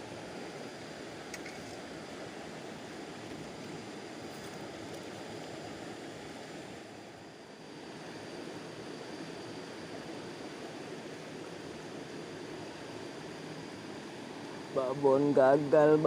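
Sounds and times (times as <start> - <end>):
fast river current rushing: 0.0 - 16.0.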